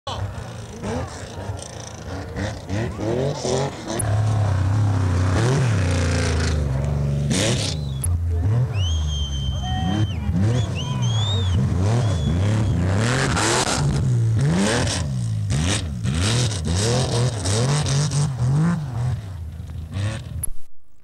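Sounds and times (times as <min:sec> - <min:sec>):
rally car engine revving: 0:00.1 - 0:20.5.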